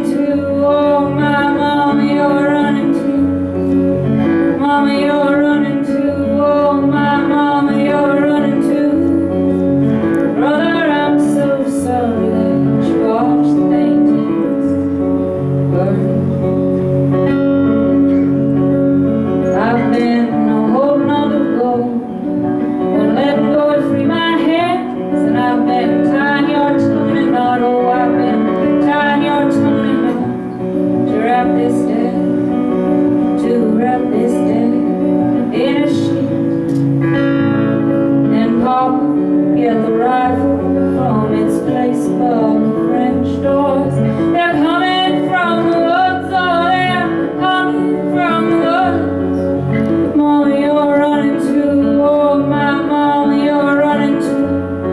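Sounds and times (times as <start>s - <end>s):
acoustic guitar: 0.0s - 54.9s
woman singing: 0.0s - 54.9s.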